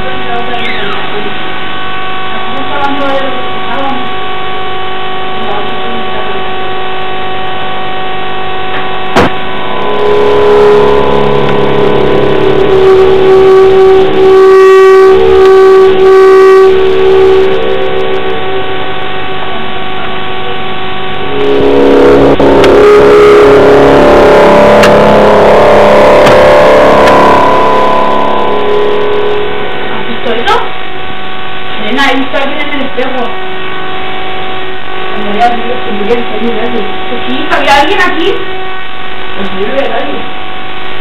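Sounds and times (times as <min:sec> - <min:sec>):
louder held synth tone: 0:00.0 - 0:39.4
synthesizer drone tones: 0:00.0 - 0:41.0.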